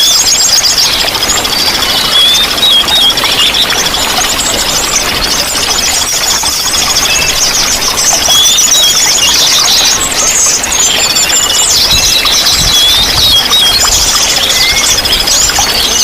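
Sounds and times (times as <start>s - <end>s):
running water: 0.0s - 16.0s
songbirds singing: 0.0s - 16.0s.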